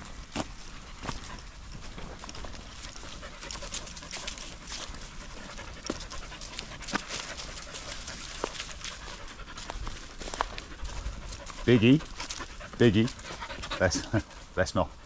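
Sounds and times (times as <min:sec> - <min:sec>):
footsteps on dry leaves: 0:00.0 - 0:14.5
dogs panting: 0:00.0 - 0:15.0.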